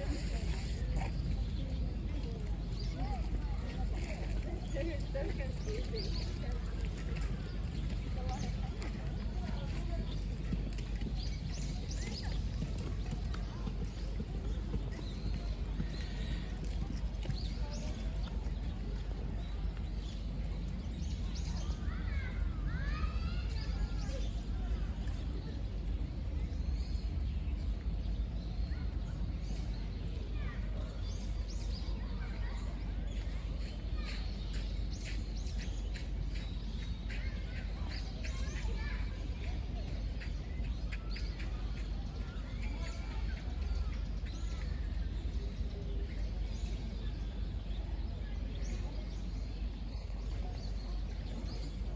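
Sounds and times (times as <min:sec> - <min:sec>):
low outdoor rumble: 0:00.0 - 0:51.9.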